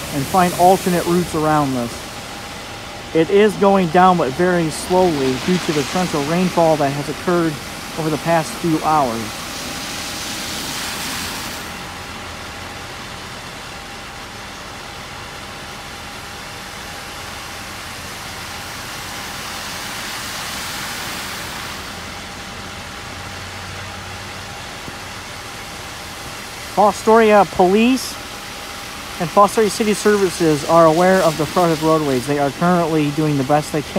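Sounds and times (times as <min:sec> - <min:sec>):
rain hissing: 0:00.0 - 0:12.8, 0:18.1 - 0:33.9
tyres hissing through floodwater: 0:00.0 - 0:33.9.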